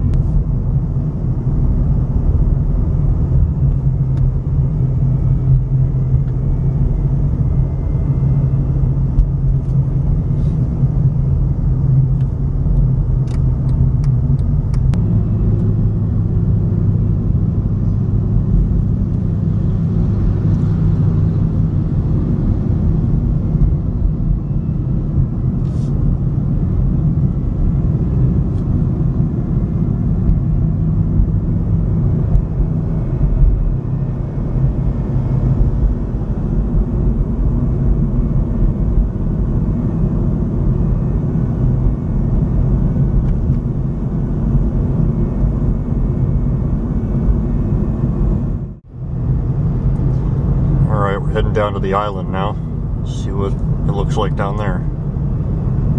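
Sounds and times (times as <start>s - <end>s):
car engine and tyre noise: 0.0s - 55.9s.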